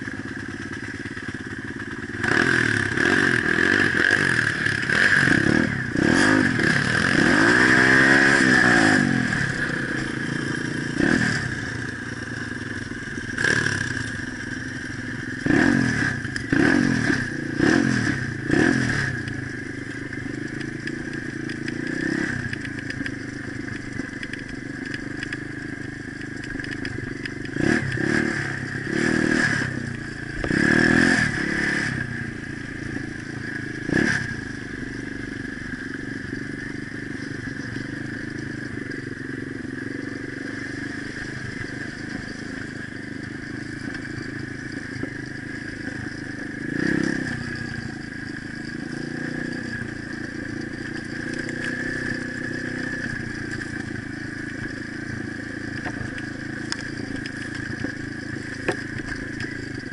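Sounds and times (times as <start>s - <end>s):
bike rattling: 0.0s - 59.9s
pit bike engine revving: 0.0s - 59.9s.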